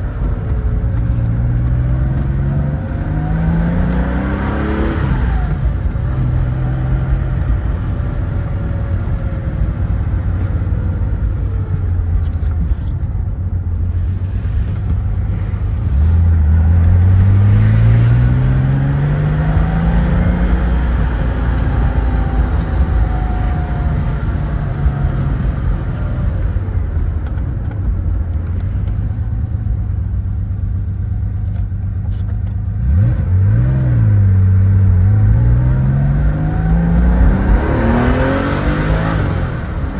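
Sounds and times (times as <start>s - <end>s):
car engine accelerating: 0.0s - 39.9s
road and wind noise: 0.0s - 39.9s.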